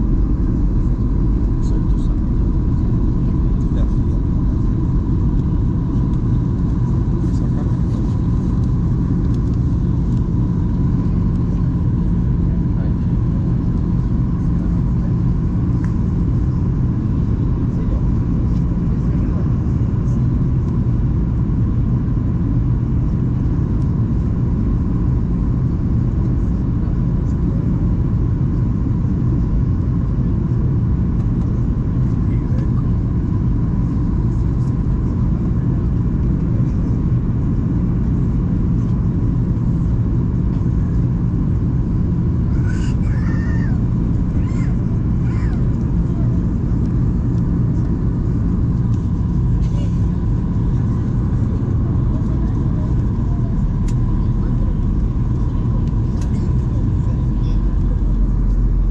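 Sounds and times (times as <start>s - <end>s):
faint steady hum: 0.0s - 58.9s
jet engine drone: 0.0s - 58.9s.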